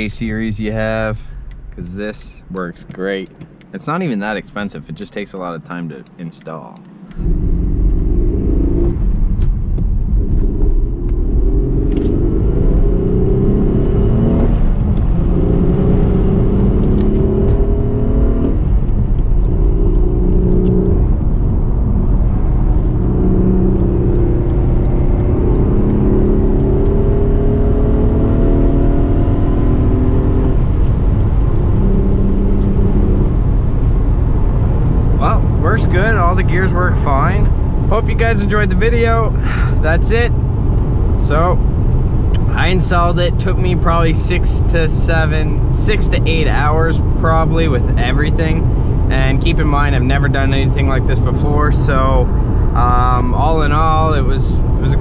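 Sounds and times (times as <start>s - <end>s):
car engine accelerating through gears: 2.6s - 55.0s.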